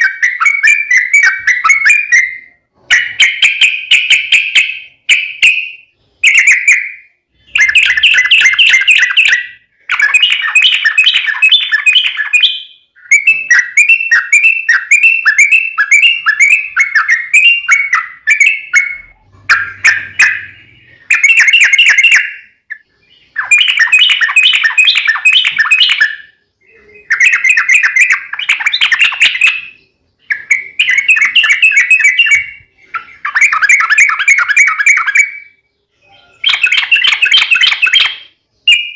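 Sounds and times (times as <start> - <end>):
bulbul singing chattering phrases: 6.2 - 38.9.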